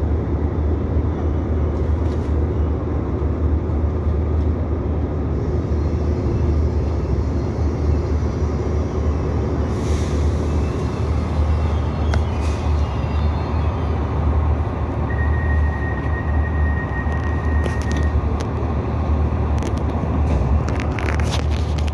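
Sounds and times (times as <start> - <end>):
train diesel engine drone: 0.0 - 21.9.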